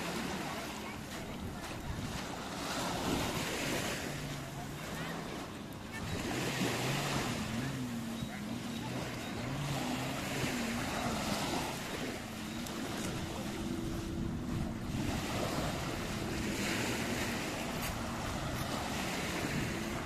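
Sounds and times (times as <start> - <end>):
boat engine droning: 0.0 - 20.0
small waves washing on sand: 0.0 - 20.0.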